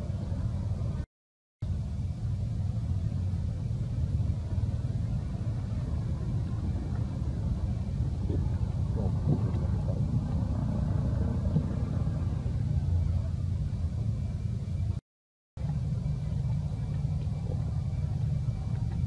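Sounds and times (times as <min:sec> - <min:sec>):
low outdoor rumble: 0:00.0 - 0:15.0, 0:15.6 - 0:19.0.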